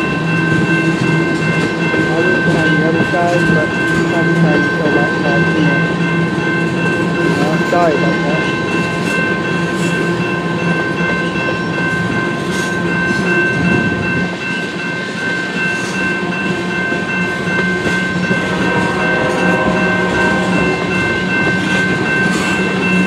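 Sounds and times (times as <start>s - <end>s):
crossing bell ringing: 0.0s - 23.0s
train wheels clacking over rails: 0.0s - 23.0s.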